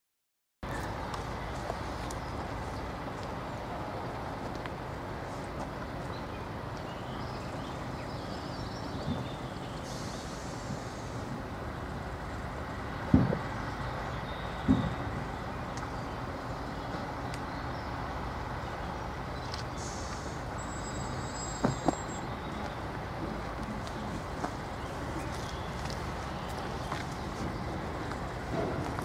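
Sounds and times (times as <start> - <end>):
diesel locomotive idling: 0.6 - 29.0.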